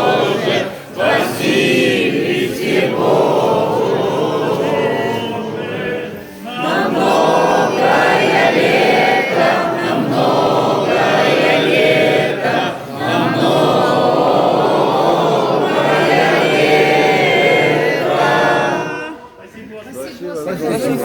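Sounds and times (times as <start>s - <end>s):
choir singing a chant: 0.0s - 19.4s.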